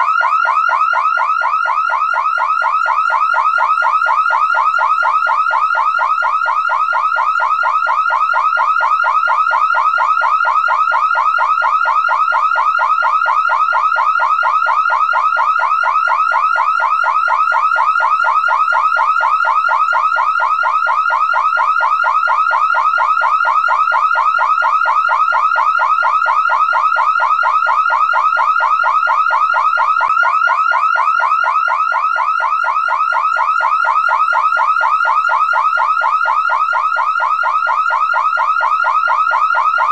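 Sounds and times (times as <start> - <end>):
car alarm siren warbling: 0.0 - 39.9.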